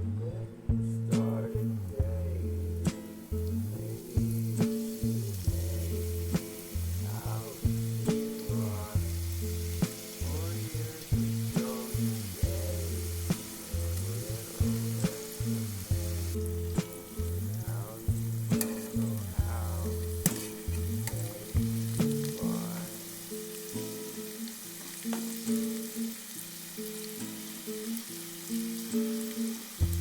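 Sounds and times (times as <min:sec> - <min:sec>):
background music with bass line: 0:00.0 - 0:24.2, 0:29.8 - 0:30.0
food sizzling in hot oil: 0:01.2 - 0:30.0.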